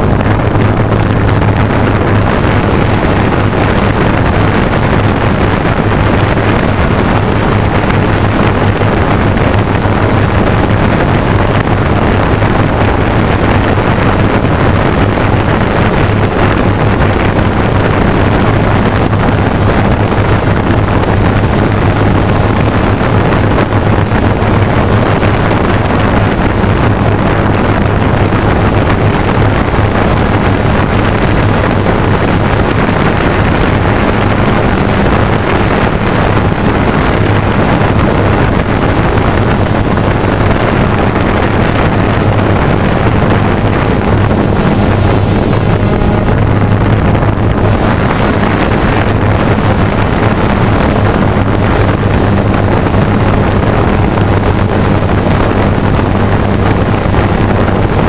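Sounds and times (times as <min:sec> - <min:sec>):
wind over microphone: 0:00.0 - 0:58.0.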